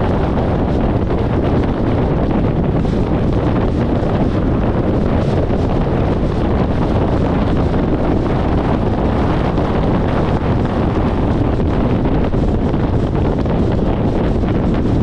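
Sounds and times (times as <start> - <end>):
road and tyre noise: 0.0 - 15.0
wind rushing on microphone: 0.0 - 15.0.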